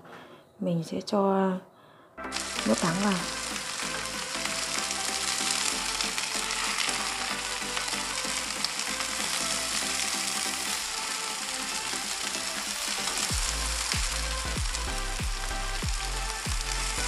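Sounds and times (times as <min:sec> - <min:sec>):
vegetables sizzling in oil: 0:02.3 - 0:17.0.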